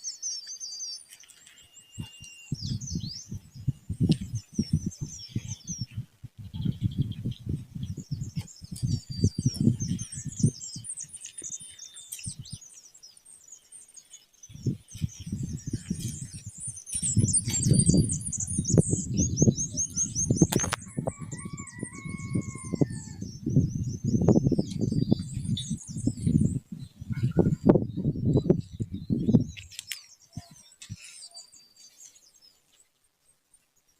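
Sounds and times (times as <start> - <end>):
bird trill: 0.0 - 6.0, 8.0 - 26.6, 27.2 - 32.3
small birds chirping: 0.0 - 33.9.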